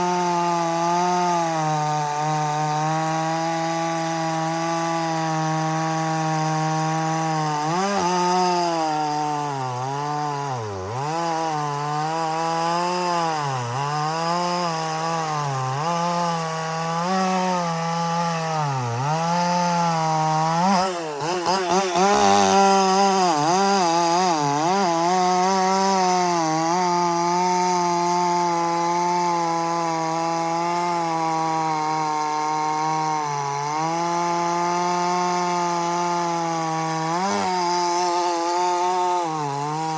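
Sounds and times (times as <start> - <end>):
chainsaw cutting at full throttle: 0.0 - 39.9.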